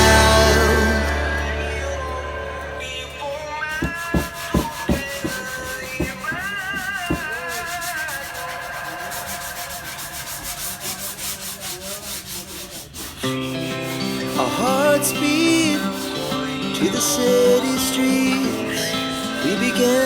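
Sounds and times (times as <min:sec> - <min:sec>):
rhythmic sanding strokes: 0:00.0 - 0:20.0.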